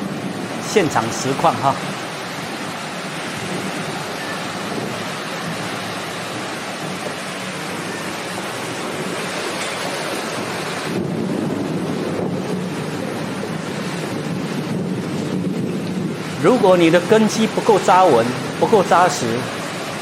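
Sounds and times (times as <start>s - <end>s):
heavy rain: 0.0s - 20.0s
wind buffeting microphone: 0.0s - 20.0s.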